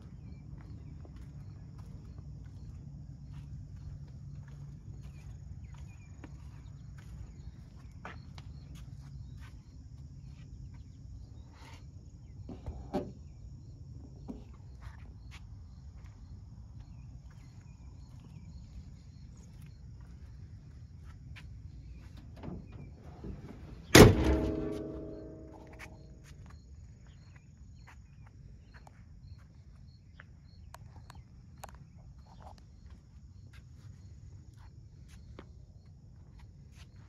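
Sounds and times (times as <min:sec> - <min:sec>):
insect chirps: 0:00.0 - 0:37.0.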